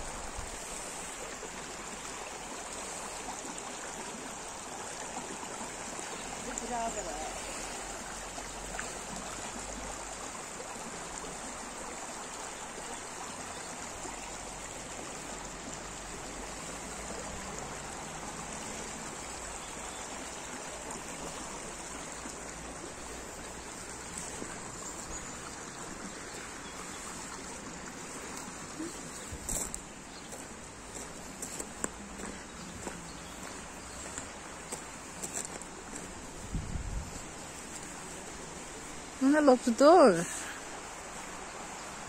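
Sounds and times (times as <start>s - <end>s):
brook water rushing over stones: 0.0s - 42.0s.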